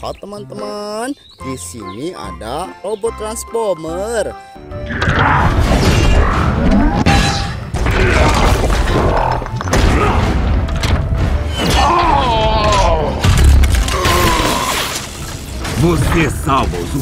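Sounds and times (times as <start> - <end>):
dramatic film music: 0.0 - 17.0.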